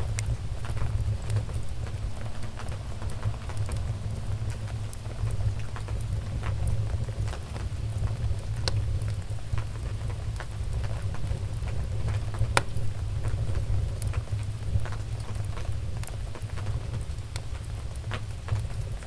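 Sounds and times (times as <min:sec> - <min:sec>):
low rumble of fire: 0:00.0 - 0:19.0
wood fire crackling and popping: 0:00.0 - 0:19.0.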